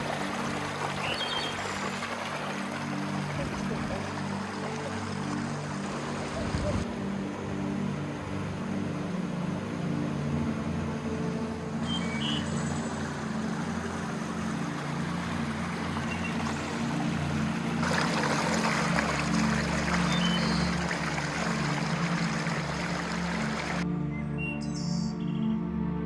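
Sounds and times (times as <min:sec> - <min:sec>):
creek water rushing: 0:00.0 - 0:23.8.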